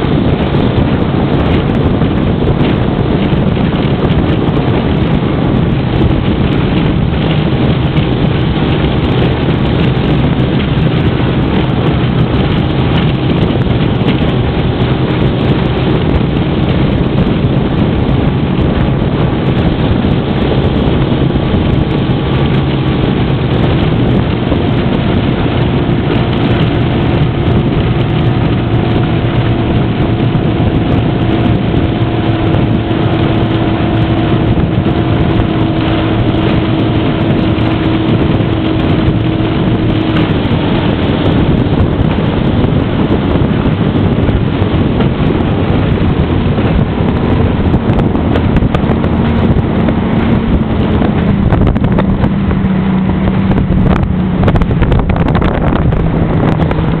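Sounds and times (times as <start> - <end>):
motorboat engine running: 0.0 - 57.0
wind and water noise: 0.0 - 57.0.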